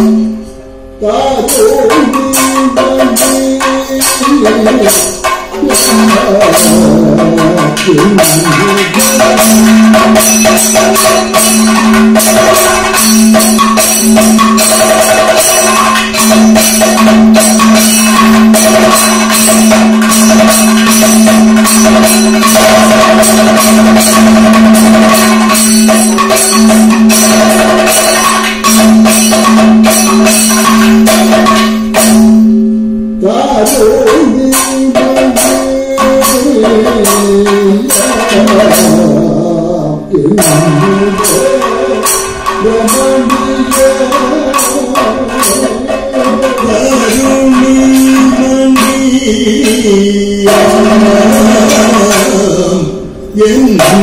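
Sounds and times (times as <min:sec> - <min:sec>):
cymbals: 0:00.0 - 0:54.0
rapid drumming: 0:01.4 - 0:32.5, 0:33.3 - 0:54.0.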